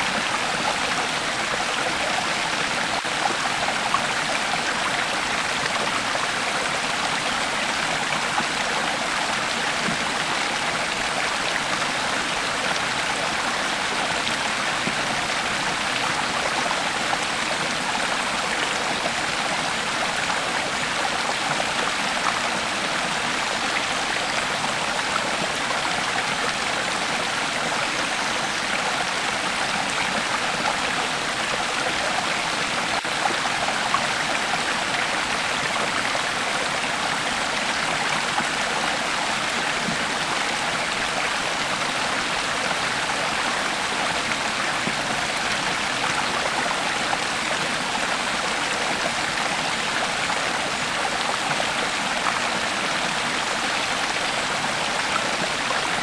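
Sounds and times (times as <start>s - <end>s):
creek water flowing over stones: 0.0s - 56.0s.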